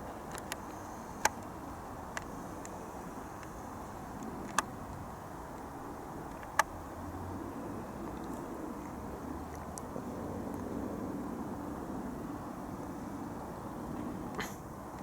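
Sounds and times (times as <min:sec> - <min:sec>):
distant jet airliner rumble: 0:00.0 - 0:15.0
outdoor background noise: 0:00.0 - 0:15.0.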